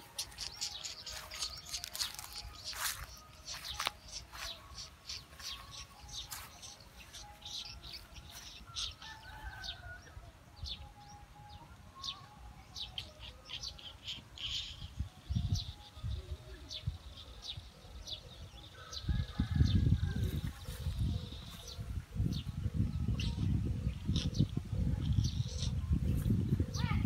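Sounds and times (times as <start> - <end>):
birds chirping: 0.0 - 27.0
low wavering bird calls: 0.0 - 27.0.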